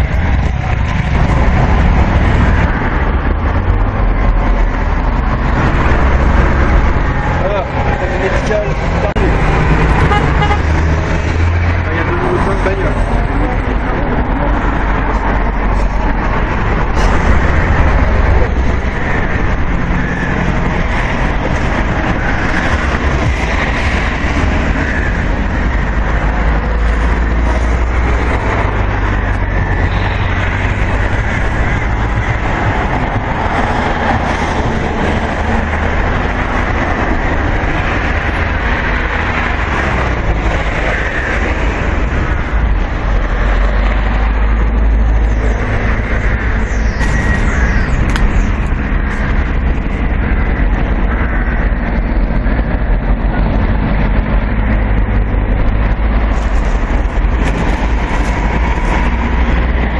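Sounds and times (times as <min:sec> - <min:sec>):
road traffic rumbling: 0:00.0 - 0:59.9.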